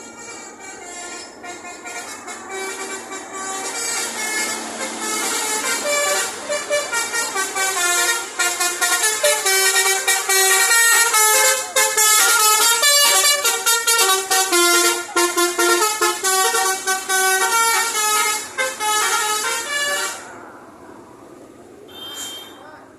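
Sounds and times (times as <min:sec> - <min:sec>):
musical air horn tooting melody: 0:00.0 - 0:20.2, 0:21.9 - 0:22.6.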